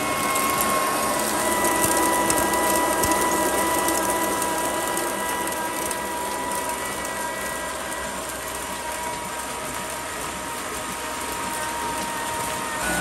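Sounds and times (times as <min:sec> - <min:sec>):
grinding mill mechanical din: 0:00.0 - 0:13.0
high mill whine: 0:00.0 - 0:13.0
maize kernels pouring: 0:00.0 - 0:13.0.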